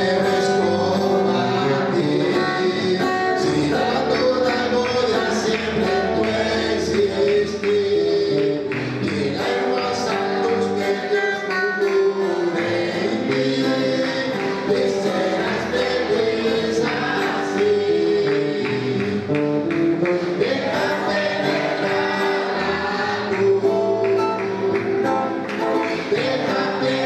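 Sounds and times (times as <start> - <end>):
man singing a hymn: 0.0 - 24.1, 25.7 - 27.0.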